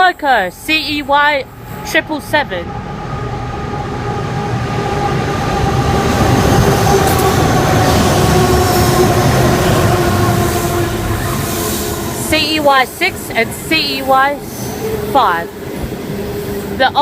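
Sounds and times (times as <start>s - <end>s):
diesel locomotive engine drone: 0.0s - 17.0s
train wheels rumbling: 0.0s - 17.0s.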